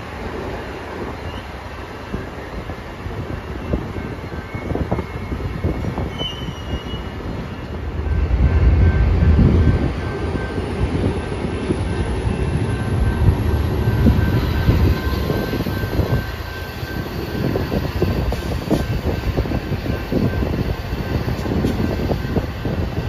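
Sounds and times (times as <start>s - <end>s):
train cars rolling on rails: 0.0s - 23.0s.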